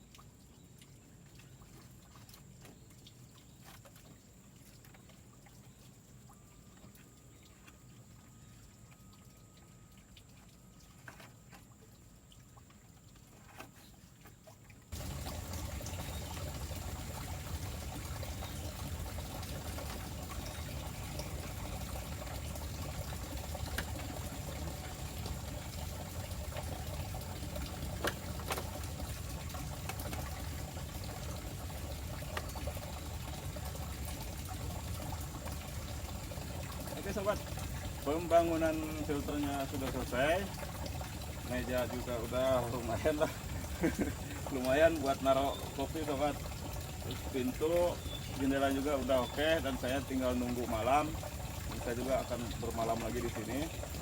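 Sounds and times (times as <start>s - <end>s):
running water pouring: 0.0s - 54.0s.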